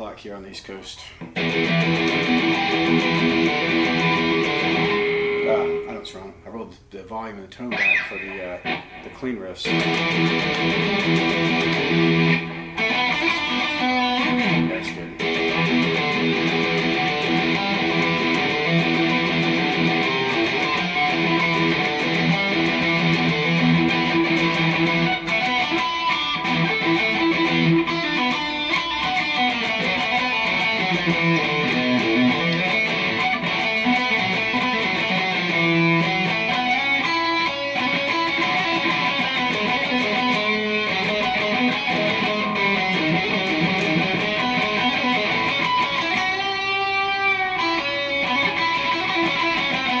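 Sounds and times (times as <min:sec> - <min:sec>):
electric guitar riff: 0:01.2 - 0:06.4, 0:07.6 - 0:50.0.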